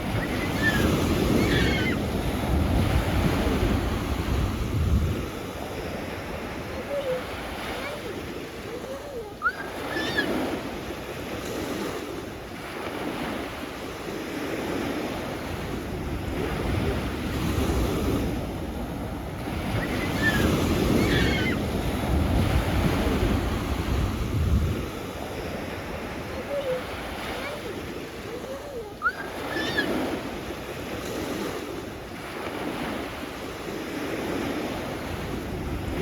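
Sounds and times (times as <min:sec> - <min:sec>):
sea waves washing ashore: 0:00.0 - 0:36.0.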